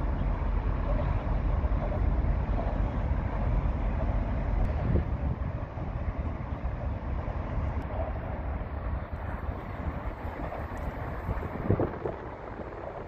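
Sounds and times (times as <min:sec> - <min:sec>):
distant city traffic hum: 0:00.0 - 0:13.0
wind buffeting microphone: 0:00.0 - 0:13.0.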